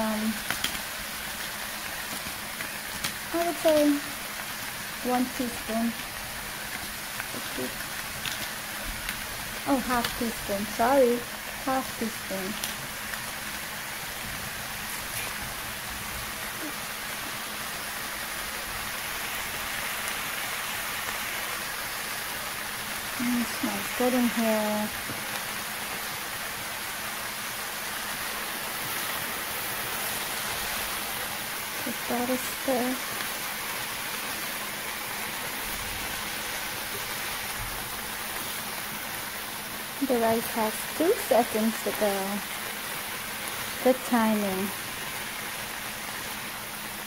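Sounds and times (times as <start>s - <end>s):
vegetables sizzling in a pan: 0.0s - 47.0s.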